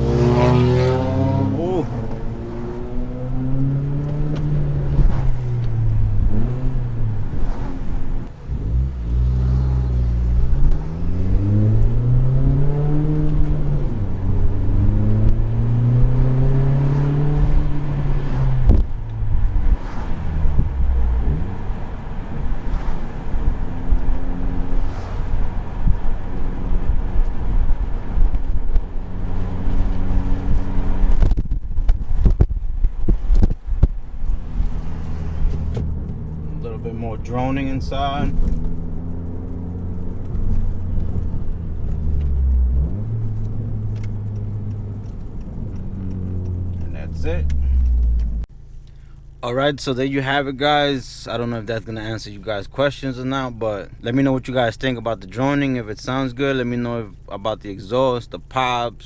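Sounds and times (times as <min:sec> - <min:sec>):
car exhaust revving: 0:00.0 - 0:52.5
exhaust pops: 0:00.0 - 0:59.0.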